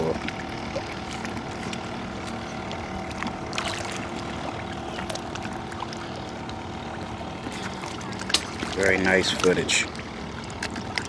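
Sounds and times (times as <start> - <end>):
low motor hum: 0.0 - 11.0
waterside noise: 0.0 - 11.0.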